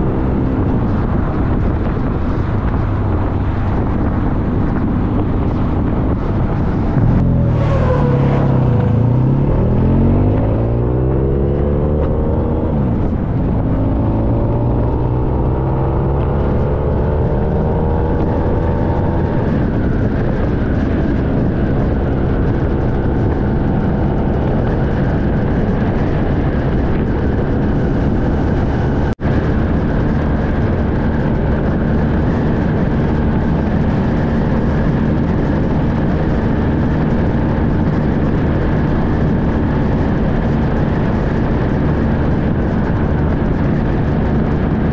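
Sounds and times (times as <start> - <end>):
motorcycle engine accelerating: 0.0 - 44.9
road noise: 0.0 - 44.9
wind noise: 0.0 - 44.9.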